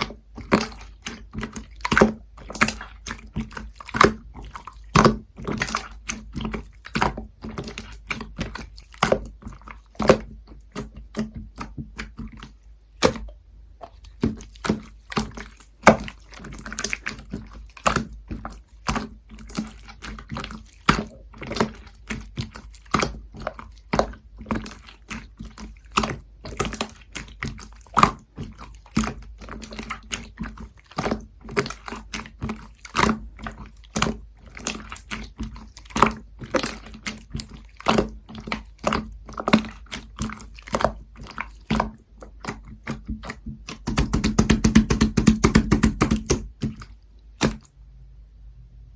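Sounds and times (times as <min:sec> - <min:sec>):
slime squishing with sticky clicks: 0:00.0 - 0:47.8.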